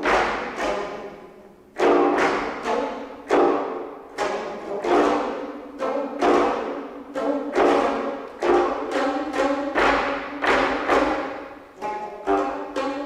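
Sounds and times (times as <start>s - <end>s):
zithers plucked with sticks: 0.0s - 13.0s.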